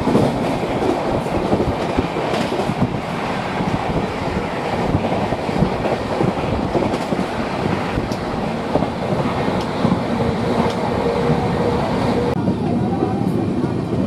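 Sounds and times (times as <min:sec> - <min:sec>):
wheel-on-rail rumble and rattle: 0:00.0 - 0:14.0.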